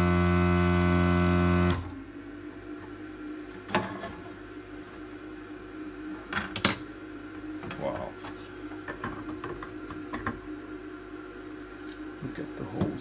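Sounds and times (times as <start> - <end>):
vacuum pump humming and hissing: 0.0 - 13.0.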